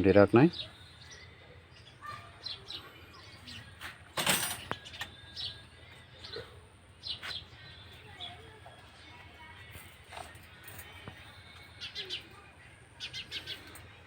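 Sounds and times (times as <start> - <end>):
small birds chirping: 0.0 - 4.0, 4.6 - 14.0.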